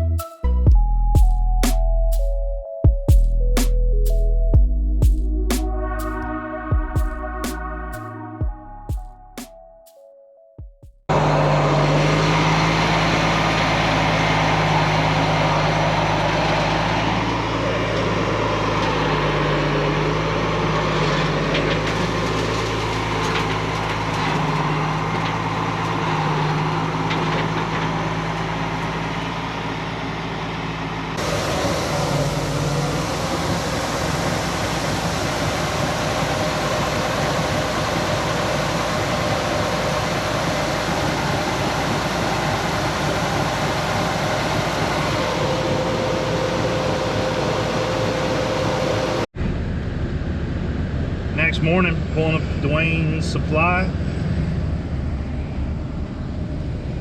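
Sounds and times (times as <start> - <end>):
heavy machinery engine humming: 11.1 - 57.0
noisier machine running: 11.1 - 57.0.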